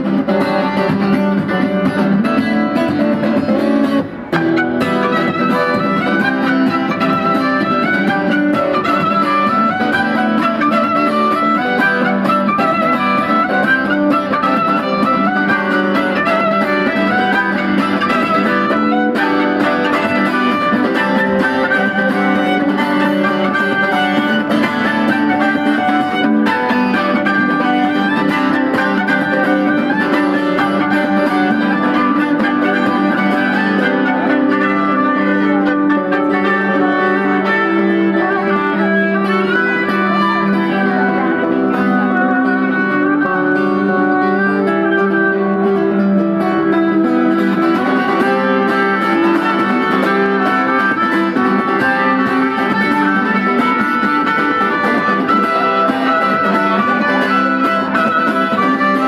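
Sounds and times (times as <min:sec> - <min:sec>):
acoustic guitar accompaniment: 0:00.0 - 0:59.0
violin melody: 0:00.0 - 0:59.0.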